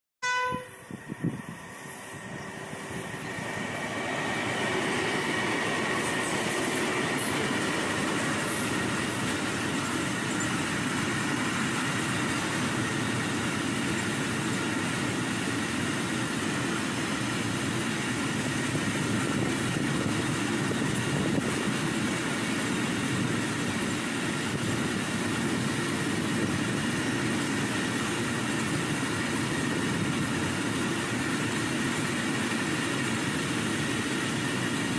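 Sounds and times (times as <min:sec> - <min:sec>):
freight train rolling past: 0:00.2 - 0:34.9.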